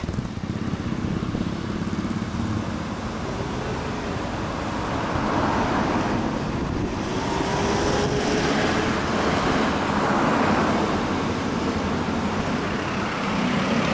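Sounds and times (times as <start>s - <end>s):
cars driving past: 0.0s - 13.9s.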